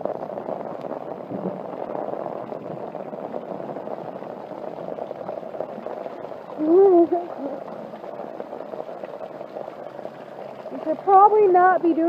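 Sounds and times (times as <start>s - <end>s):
heavy rain on an umbrella: 0.0s - 12.0s.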